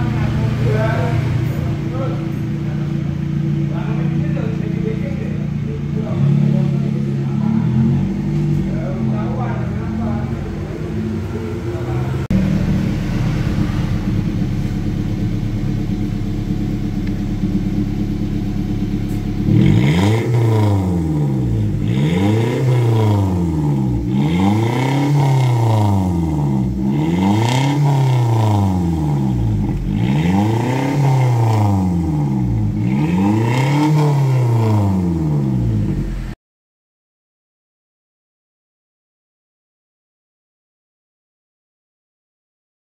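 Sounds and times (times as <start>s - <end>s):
car engine idling and revving: 0.0s - 36.4s.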